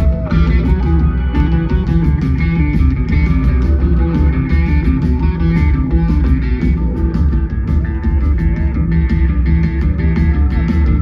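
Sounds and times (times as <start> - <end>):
bass: 0.0 - 11.0
drums: 0.0 - 11.0
electric guitar: 0.0 - 11.0.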